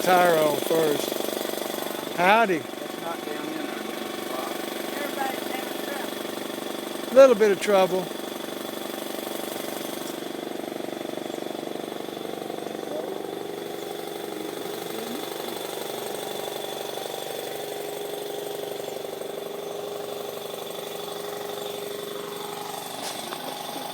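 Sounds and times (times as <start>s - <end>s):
air compressor running: 0.0s - 23.9s.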